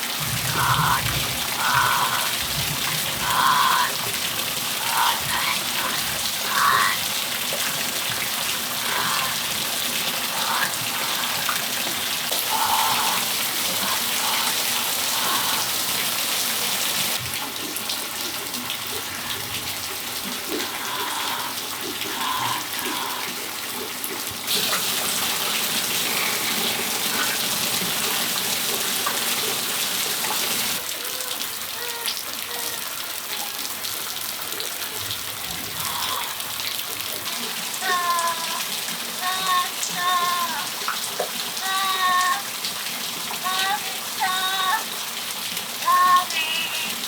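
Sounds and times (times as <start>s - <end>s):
rain falling on a patio: 0.0s - 47.0s
rain splashes: 0.0s - 47.0s.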